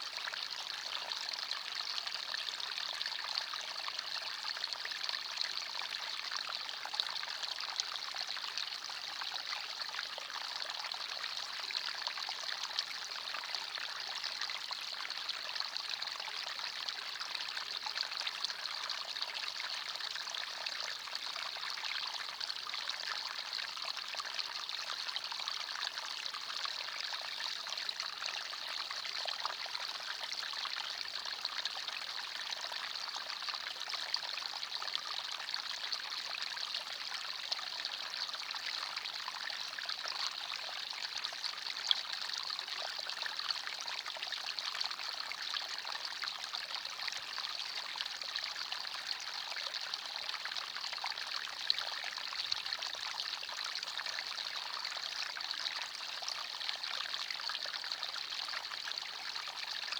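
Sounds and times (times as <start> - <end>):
stream trickling over stones: 0.3 - 59.9.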